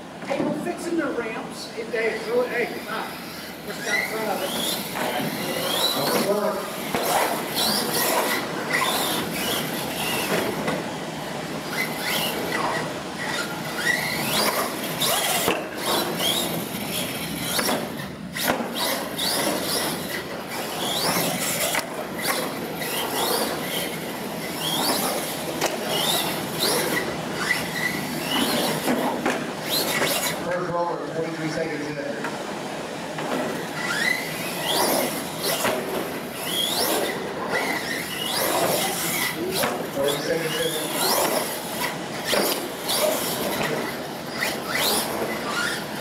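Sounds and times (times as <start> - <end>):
toy truck motor whining: 2.1 - 10.8, 11.6 - 30.4, 33.5 - 46.0.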